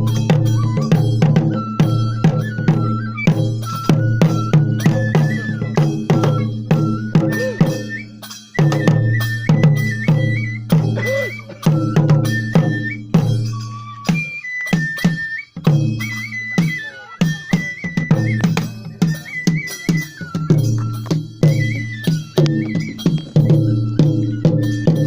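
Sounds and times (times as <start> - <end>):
drum in steady rhythm: 0.0 - 25.0
high flute melody: 0.0 - 25.0.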